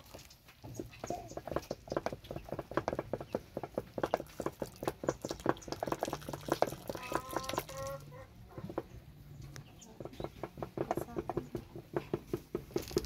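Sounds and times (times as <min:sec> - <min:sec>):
chicken clucking: 0:00.0 - 0:12.3
porridge plopping and popping: 0:00.0 - 0:13.0.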